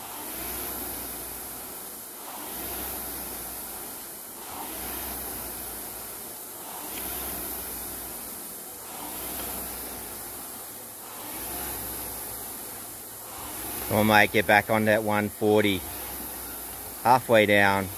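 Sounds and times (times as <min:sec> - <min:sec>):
rowing machine flywheel whooshing: 0:00.0 - 0:17.9.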